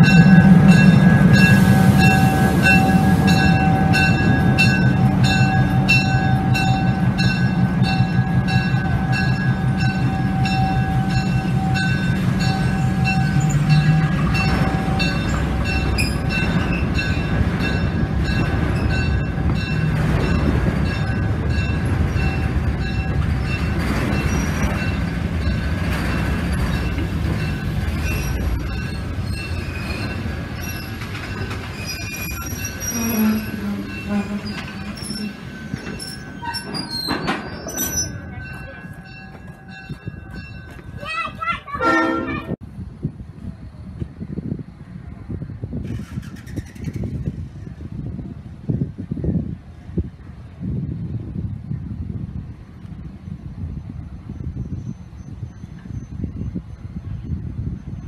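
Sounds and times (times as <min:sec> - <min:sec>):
freight cars rolling on track: 0:00.0 - 0:42.6, 0:43.2 - 0:58.0
diesel locomotive engine running: 0:00.0 - 0:58.0.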